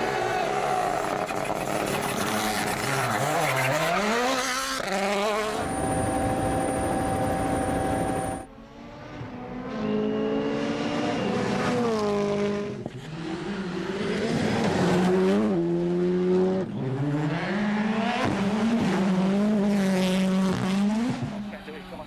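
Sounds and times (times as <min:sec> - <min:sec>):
rally car engine revving: 0:00.0 - 0:21.6.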